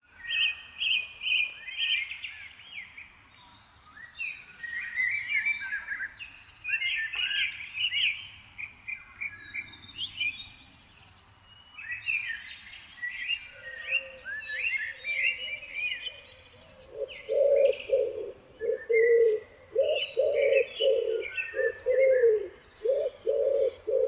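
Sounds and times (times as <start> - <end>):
songbirds chirping and trilling: 0.1 - 24.0.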